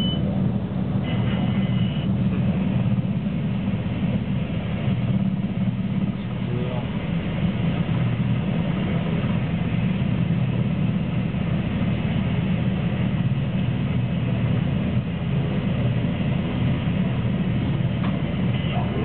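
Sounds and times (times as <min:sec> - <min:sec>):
helicopter rotor and turbine noise: 0:00.0 - 0:19.0.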